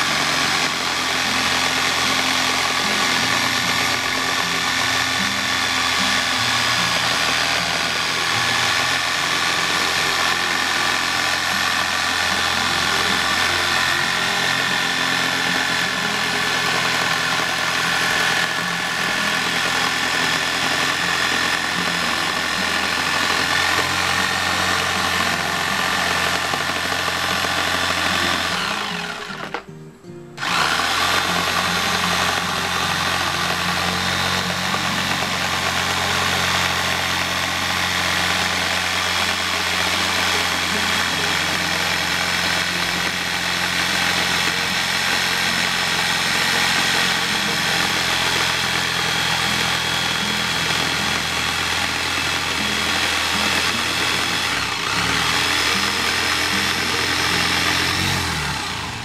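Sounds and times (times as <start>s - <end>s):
jigsaw cutting rubber: 0.0s - 29.7s, 30.4s - 59.0s.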